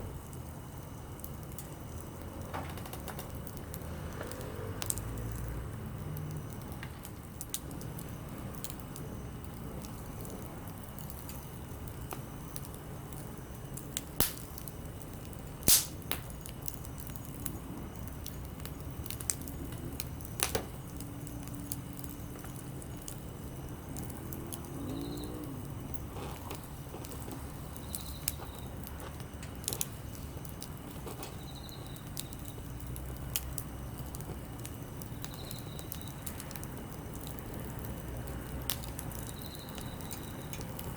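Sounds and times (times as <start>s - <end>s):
campfire crackling and popping: 0.0s - 40.9s
low fire rumble: 0.0s - 40.9s.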